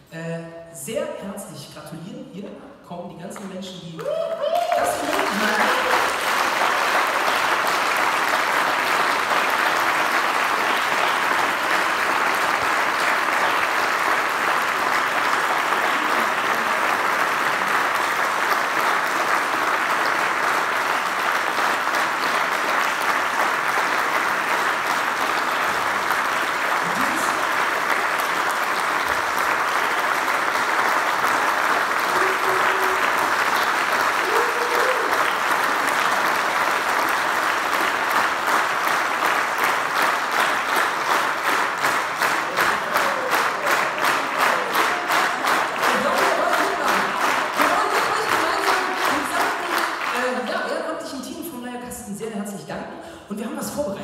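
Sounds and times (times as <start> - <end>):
audience applause: 4.0 - 50.7.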